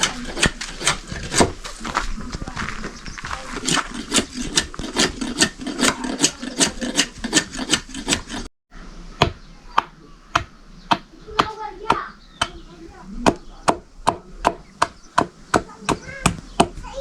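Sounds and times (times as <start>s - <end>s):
chopping blows: 0.0s - 8.5s, 9.2s - 17.0s
rhythmic rasping strokes: 0.0s - 8.5s, 9.2s - 17.0s.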